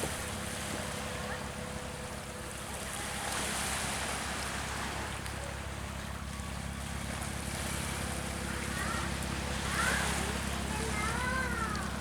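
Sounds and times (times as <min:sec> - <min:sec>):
boat engine running: 0:00.0 - 0:12.0
rushing water: 0:00.0 - 0:12.0
wind: 0:00.0 - 0:12.0.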